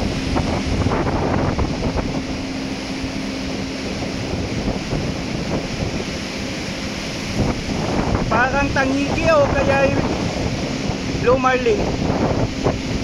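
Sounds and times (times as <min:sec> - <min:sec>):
churned sea water rushing: 0:00.0 - 0:13.0
ship engine low hum: 0:00.0 - 0:13.0
wind buffeting microphone: 0:00.0 - 0:13.0.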